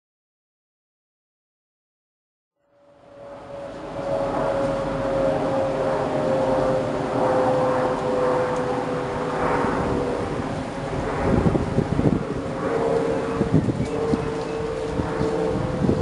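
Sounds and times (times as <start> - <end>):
passing vehicle engine drone: 2.7 - 16.0.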